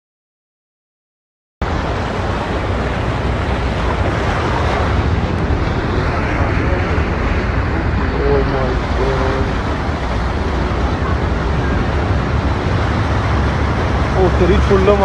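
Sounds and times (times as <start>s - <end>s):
water rushing: 1.6s - 15.0s
wind rumbling on microphone: 1.6s - 15.0s.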